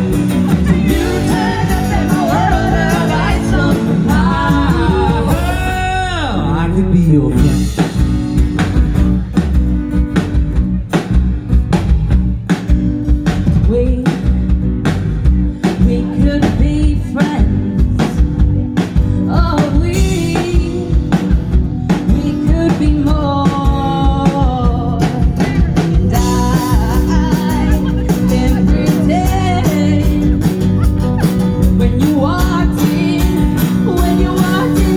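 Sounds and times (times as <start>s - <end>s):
drum kit beat: 0.0s - 6.7s, 7.3s - 34.9s
live rock band playing: 0.0s - 34.9s.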